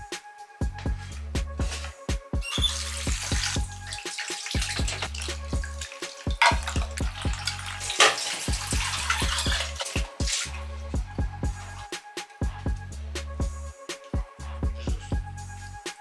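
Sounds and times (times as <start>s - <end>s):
background music with beat: 0.0s - 16.0s.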